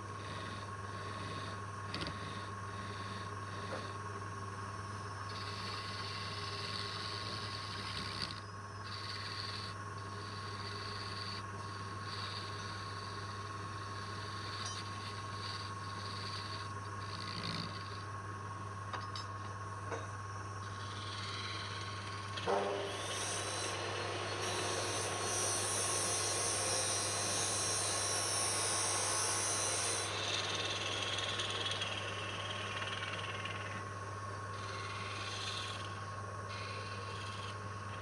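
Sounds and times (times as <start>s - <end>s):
wood lathe humming and whining: 0.0s - 17.1s, 19.9s - 38.0s.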